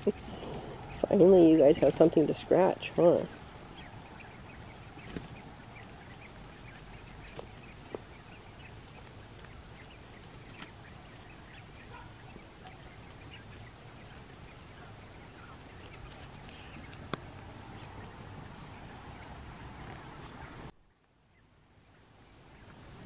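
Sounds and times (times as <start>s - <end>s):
quail chicks peeping: 0.0s - 23.0s.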